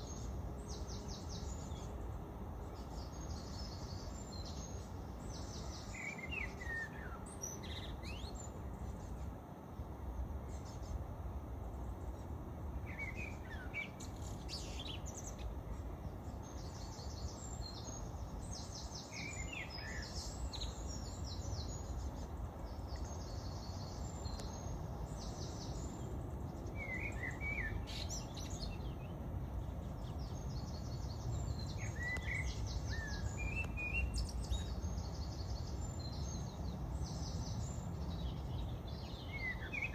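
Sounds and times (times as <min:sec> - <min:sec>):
bird chirping: 0:00.0 - 0:09.3, 0:12.0 - 0:39.9
low city rumble: 0:00.0 - 0:39.9.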